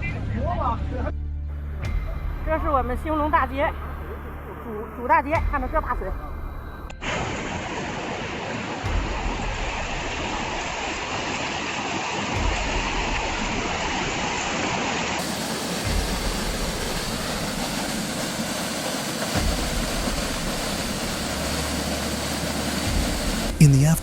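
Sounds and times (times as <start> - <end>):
floodwater rushing: 1.9 - 24.0.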